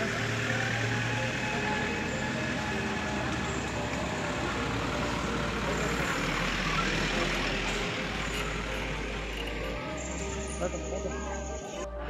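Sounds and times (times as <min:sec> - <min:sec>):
vehicle engine driving past: 0:00.0 - 0:11.6
crowd chatter: 0:00.0 - 0:12.0.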